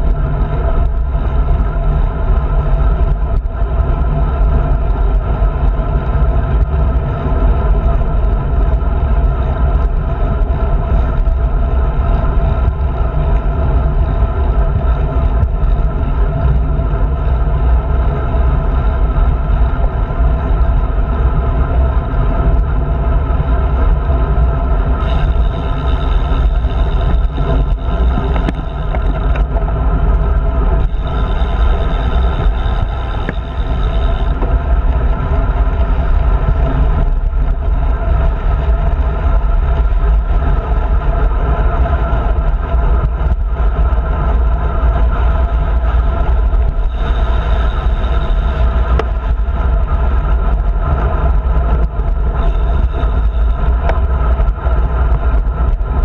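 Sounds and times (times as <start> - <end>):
heavy low rumble: 0.0 - 56.0
wind rushing over microphone: 0.0 - 56.0.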